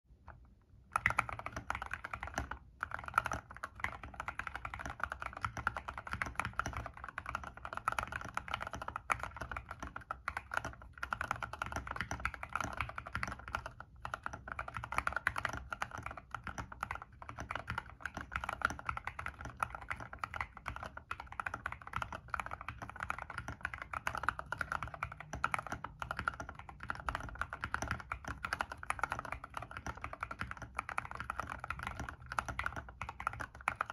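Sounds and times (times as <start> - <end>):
typing on mechanical keyboard: 0.3 - 33.9.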